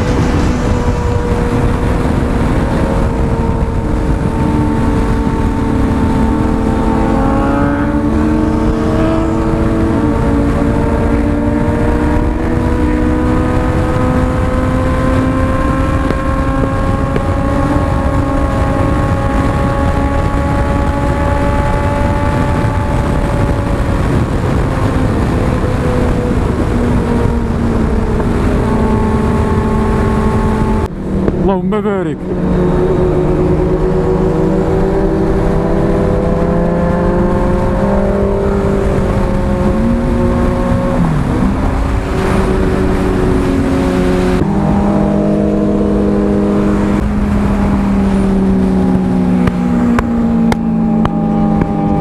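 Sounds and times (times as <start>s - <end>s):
motorcycle engine cruising: 0.0s - 52.0s
wind rumble on microphone: 0.0s - 52.0s.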